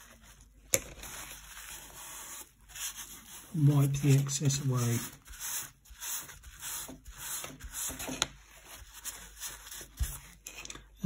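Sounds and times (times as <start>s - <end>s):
paper towel scrubbing wood: 0.0s - 10.4s.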